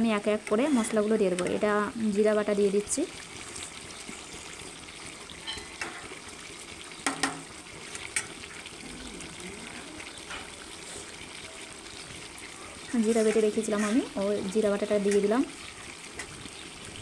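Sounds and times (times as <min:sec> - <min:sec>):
curry bubbling and sizzling: 0:00.0 - 0:17.0.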